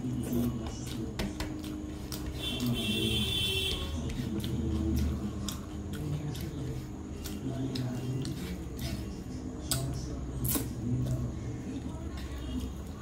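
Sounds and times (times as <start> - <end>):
fingers working rice on a plate: 0.0 - 11.4
wet chewing: 0.0 - 13.0.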